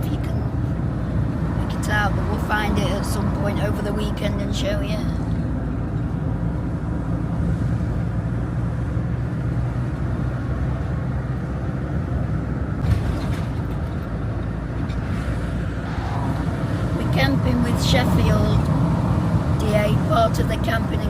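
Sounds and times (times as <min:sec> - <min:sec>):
engine and road noise: 0:00.0 - 0:21.0.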